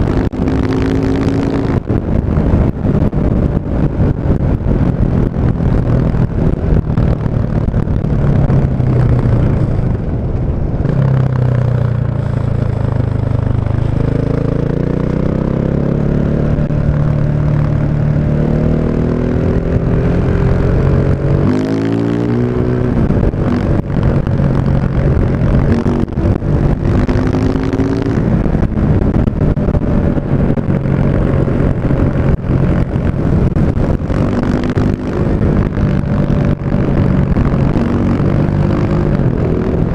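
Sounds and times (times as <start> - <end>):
motorcycle engine revving: 0.0 - 10.2, 10.8 - 39.9.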